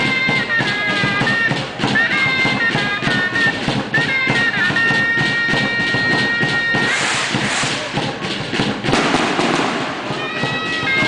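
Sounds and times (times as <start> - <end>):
drum beats: 0.0 - 11.0
shawm playing reedy melody: 0.0 - 11.0.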